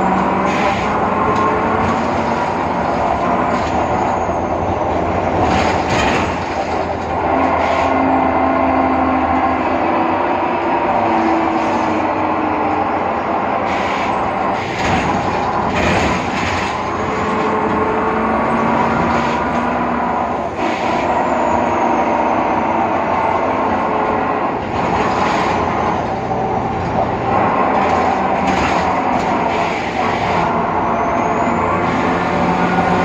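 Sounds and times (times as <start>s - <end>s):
bus ride noise: 0.0s - 33.0s
diesel engine running: 0.0s - 33.0s.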